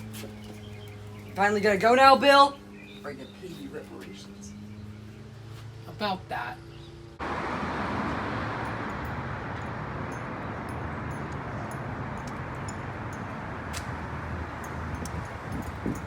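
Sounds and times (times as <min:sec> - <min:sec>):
engine running with rushing noise: 0:00.0 - 0:16.0.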